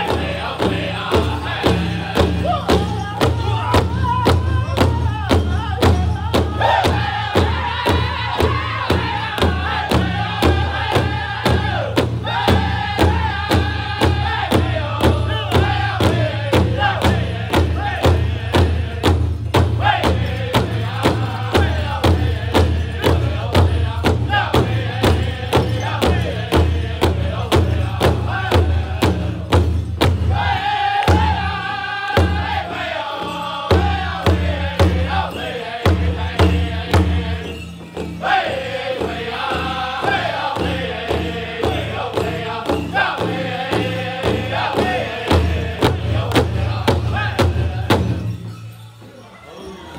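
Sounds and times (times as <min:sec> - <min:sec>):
large hide drum beat: 0:00.0 - 0:48.4
singers singing in unison: 0:00.0 - 0:48.4.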